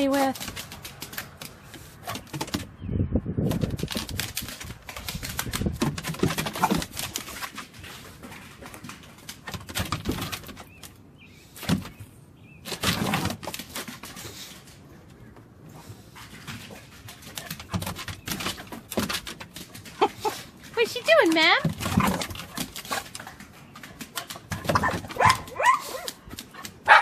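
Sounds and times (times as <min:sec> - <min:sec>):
dog claws on wooden boards: 0:03.4 - 0:15.5, 0:16.2 - 0:27.0
dogs breathing and grunting: 0:03.7 - 0:26.9.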